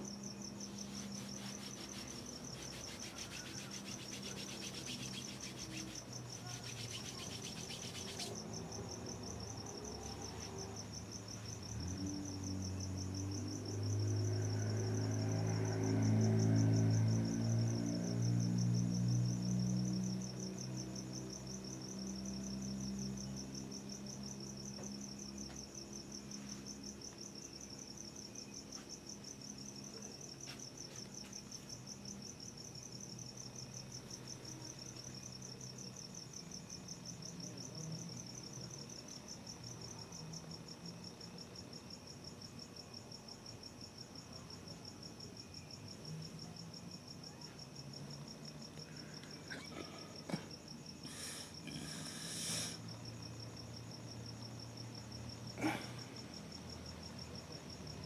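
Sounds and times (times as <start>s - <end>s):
cricket chirping: 0.0s - 58.0s
faint low hum: 0.0s - 58.0s.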